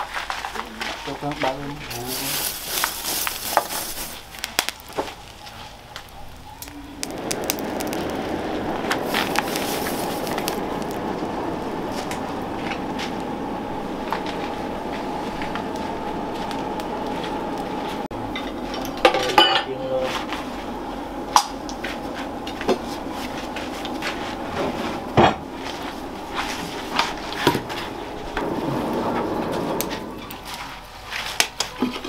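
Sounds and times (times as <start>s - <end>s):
steady hum with faint whine: 0.6s - 32.0s.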